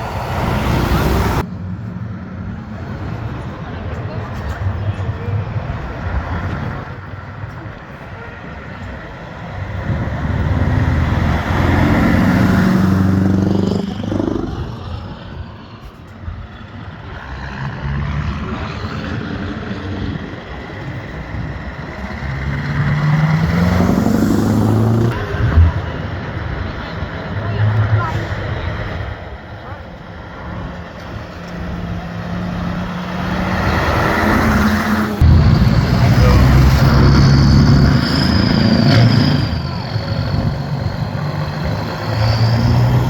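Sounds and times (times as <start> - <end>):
trucks driving past: 0.0 - 43.0.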